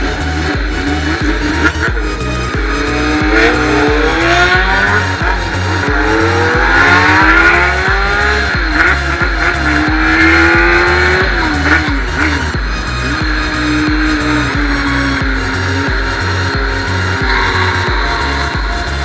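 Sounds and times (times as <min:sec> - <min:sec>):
electronic music with bass beat: 0:00.0 - 0:19.0.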